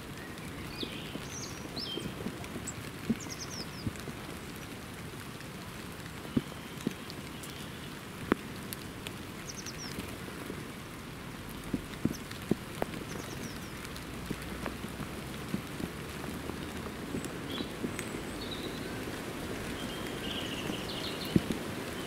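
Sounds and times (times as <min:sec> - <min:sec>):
rain on foliage: 0:00.0 - 0:22.0.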